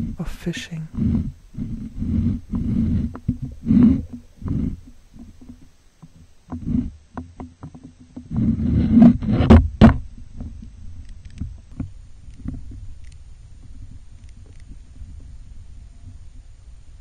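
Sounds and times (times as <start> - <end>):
muffled underwater rumbling: 0.0 - 17.0.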